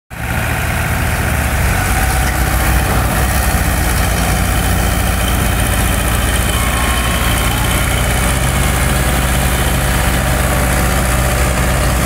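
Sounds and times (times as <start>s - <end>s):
diesel engine idling: 0.1s - 12.0s.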